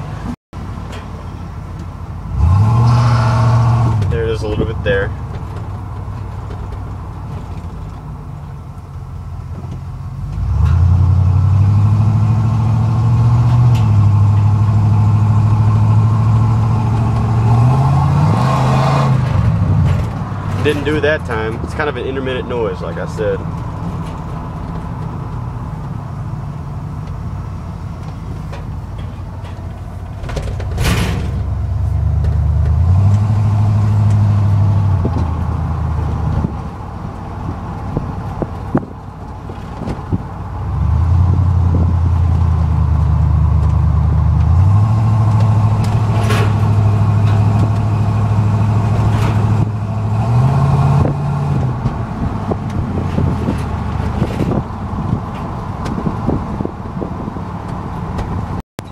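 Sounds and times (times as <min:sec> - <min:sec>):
pickup engine accelerating through gears: 0:01.8 - 0:08.4, 0:09.5 - 0:29.1, 0:30.2 - 0:58.9.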